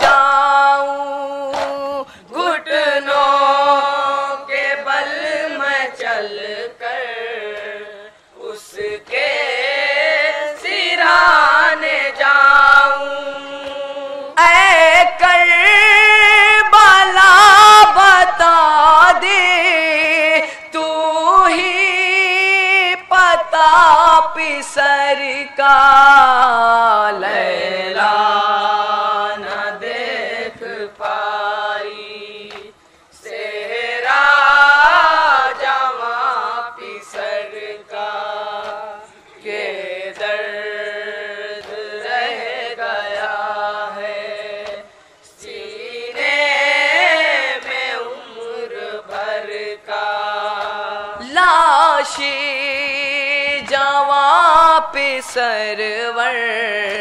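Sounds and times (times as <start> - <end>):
young men chanting a lament: 0.0 - 57.0.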